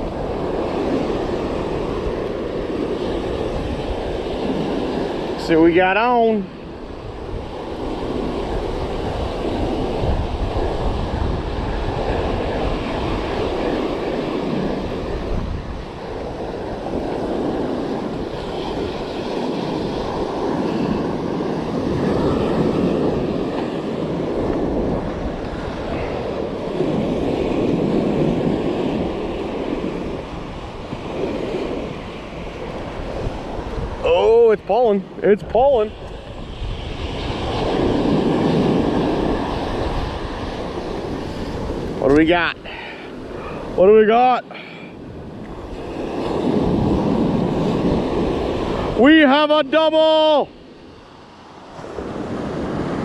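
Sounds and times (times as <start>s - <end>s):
wind rumbling on microphone: 0.0s - 49.6s, 50.2s - 53.0s
ocean surf breaking: 0.0s - 53.0s.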